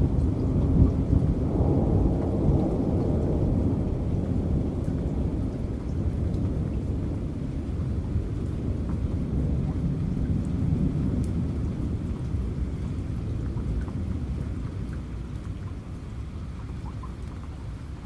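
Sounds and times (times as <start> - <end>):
low rumble of thunder: 0.0 - 18.0
raindrop ticks: 0.0 - 18.0
steady rain: 0.0 - 18.0.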